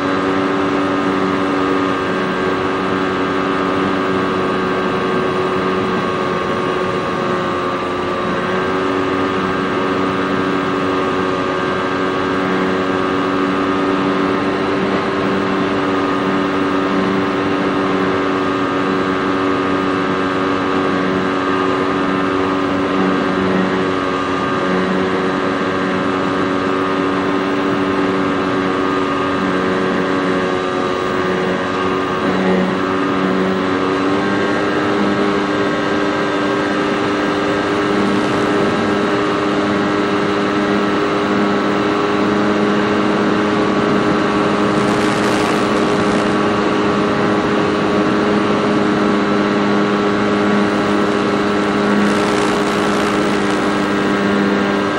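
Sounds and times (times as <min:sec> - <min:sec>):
model airplane motor and propeller: 0:00.0 - 0:54.9.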